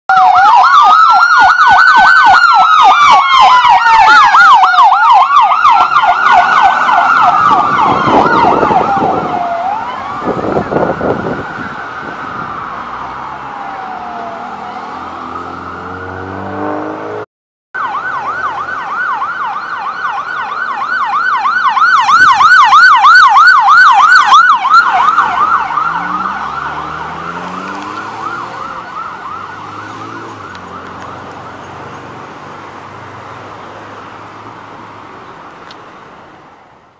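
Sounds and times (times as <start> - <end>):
emergency vehicle siren: 0.1 - 17.2, 17.8 - 35.8.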